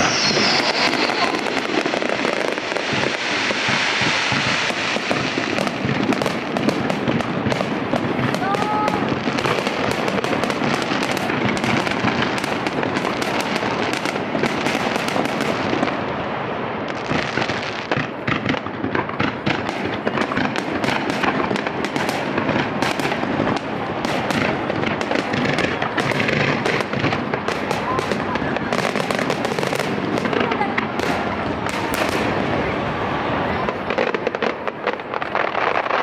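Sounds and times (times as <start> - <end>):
fireworks bangs: 0.0 - 36.0
fireworks crackling: 0.0 - 36.0.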